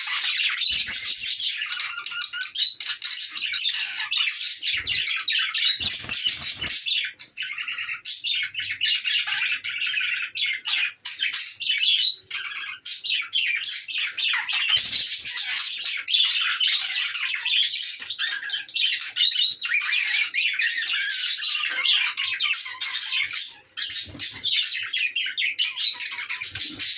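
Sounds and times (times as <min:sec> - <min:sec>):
budgerigars chattering and chirping: 0:00.0 - 0:26.9.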